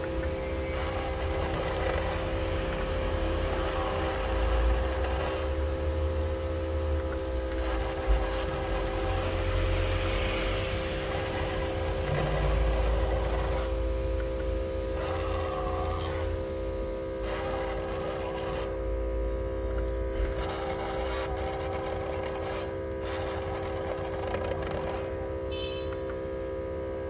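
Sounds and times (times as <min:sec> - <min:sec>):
tool scraping on glass: 0:00.0 - 0:16.5, 0:17.2 - 0:18.9, 0:19.7 - 0:25.2
small electric motor humming: 0:00.0 - 0:27.0.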